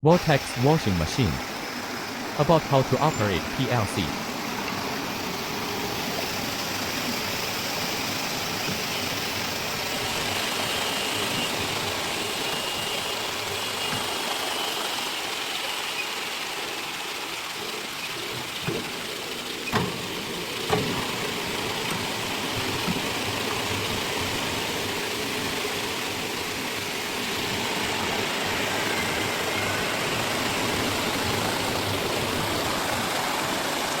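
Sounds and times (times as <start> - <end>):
washing machine churning water: 4.4 - 34.0.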